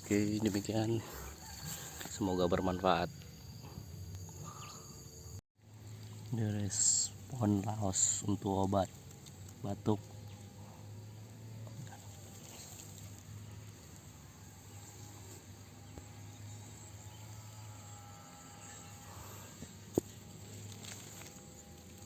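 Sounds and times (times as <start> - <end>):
insects chirping: 0.0 - 22.0
steady low hum: 0.0 - 22.0.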